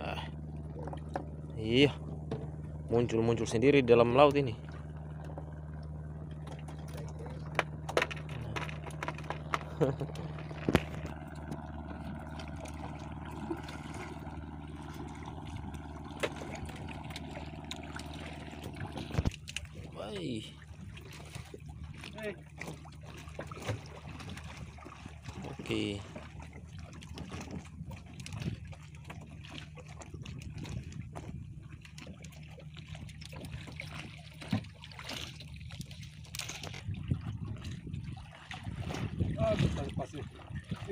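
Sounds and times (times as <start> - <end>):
low steady rumble: 0.0 - 40.9
steady low hum: 0.0 - 40.9
water lapping around boats: 0.0 - 40.9.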